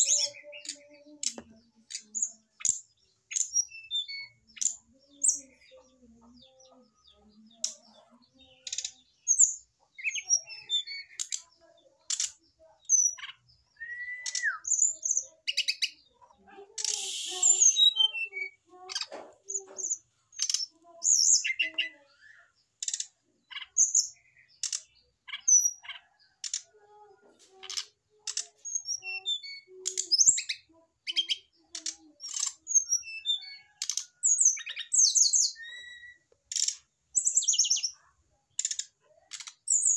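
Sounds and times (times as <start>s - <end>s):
birds chirping and clicking: 0.0s - 39.9s.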